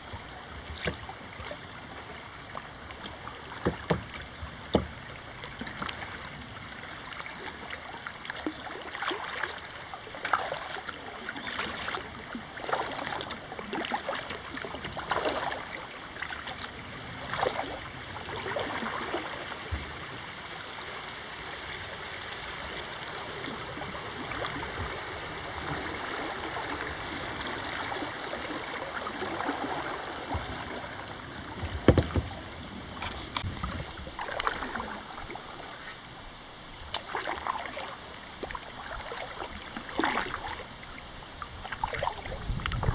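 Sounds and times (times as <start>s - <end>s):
paddle strokes splashing: 0.0s - 42.9s
rippling river current: 0.0s - 42.9s.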